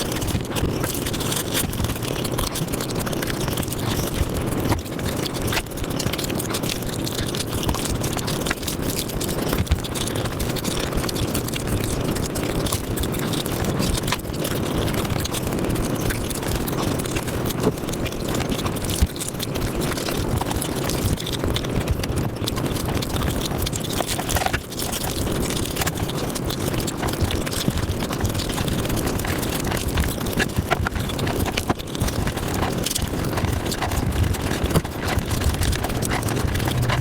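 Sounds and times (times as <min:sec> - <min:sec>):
rapid chewing and smacking: 0:00.0 - 0:37.0.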